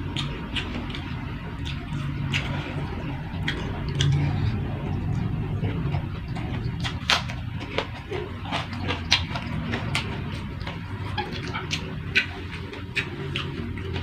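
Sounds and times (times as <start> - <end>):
low steady hum: 0.0 - 14.0
person chewing and crunching: 0.0 - 14.0.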